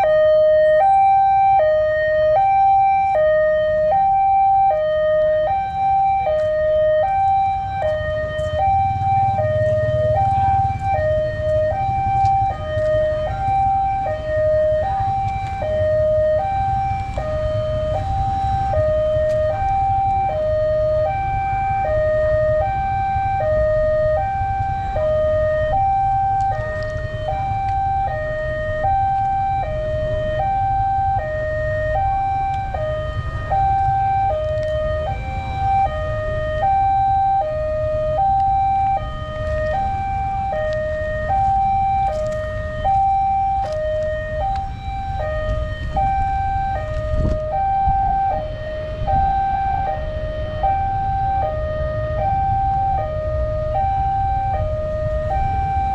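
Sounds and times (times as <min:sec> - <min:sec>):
two-note crossing warning siren: 0:00.0 - 0:55.9.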